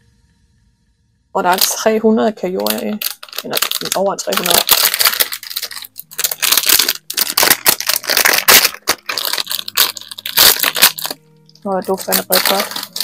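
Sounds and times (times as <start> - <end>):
plastic wrapper crinkling: 1.5 - 13.0.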